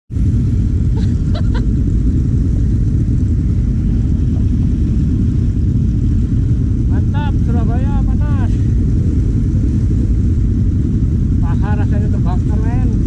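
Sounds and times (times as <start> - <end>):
engine running low rumble: 0.1 - 13.0.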